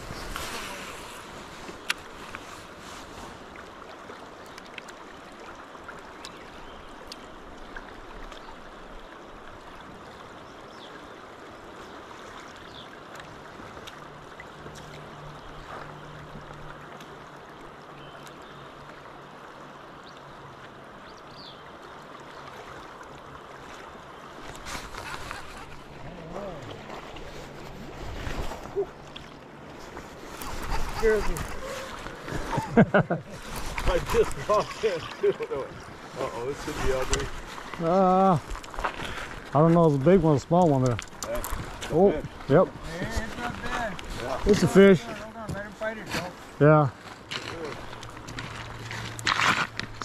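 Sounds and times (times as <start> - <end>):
river water rushing: 0.0 - 50.0.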